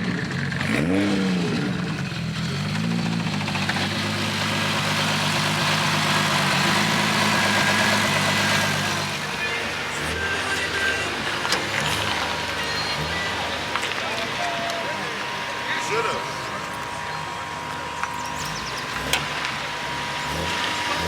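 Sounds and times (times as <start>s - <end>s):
car engine revving and running: 0.0s - 21.0s.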